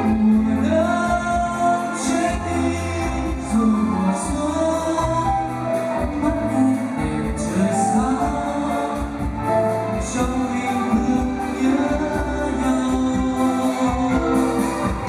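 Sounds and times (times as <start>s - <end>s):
man singing: 0.0s - 15.0s
rock band playing: 0.0s - 15.0s.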